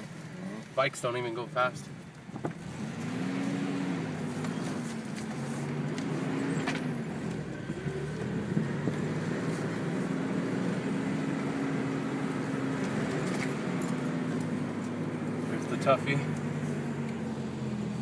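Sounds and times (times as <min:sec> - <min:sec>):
vehicle engine revving: 0:02.4 - 0:18.0.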